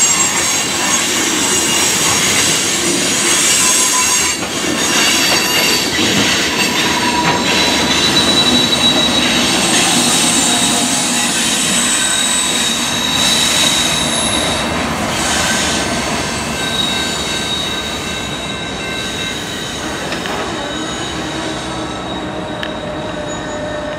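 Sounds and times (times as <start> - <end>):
train wheel squeal: 0.0 - 23.9
train wheels rumbling: 0.0 - 23.9.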